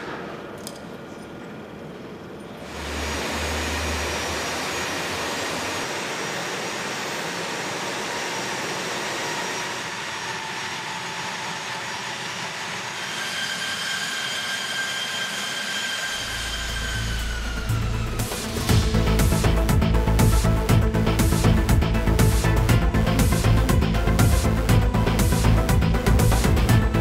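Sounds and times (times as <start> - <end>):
jet engine whine: 0.0 - 27.0.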